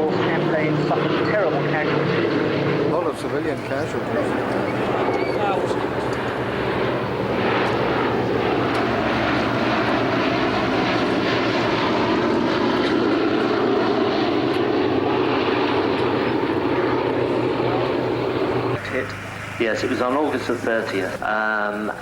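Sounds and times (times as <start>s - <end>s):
propeller aircraft engines droning: 0.0s - 22.0s.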